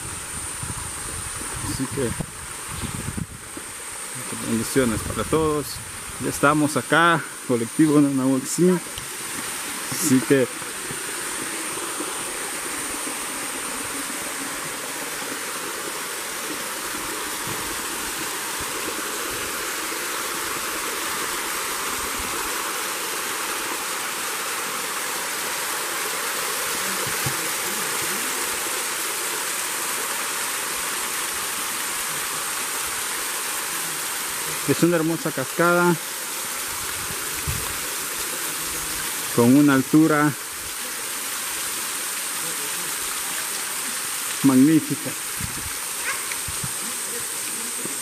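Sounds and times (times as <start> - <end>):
waterfall pouring into a pool: 0.0 - 48.0.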